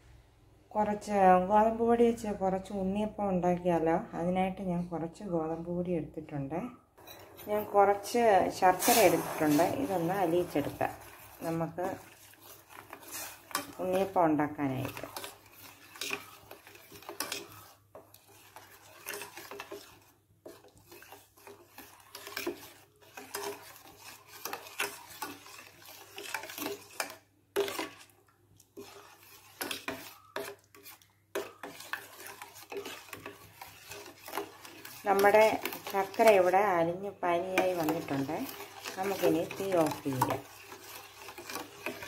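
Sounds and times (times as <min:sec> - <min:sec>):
metal spoon scraping steel pot: 0:07.0 - 0:28.1, 0:28.7 - 0:42.0.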